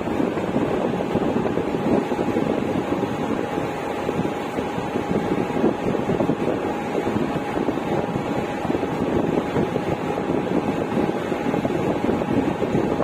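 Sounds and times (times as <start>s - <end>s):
thin steady whine: 0.0s - 13.0s
wind on microphone: 0.0s - 13.0s.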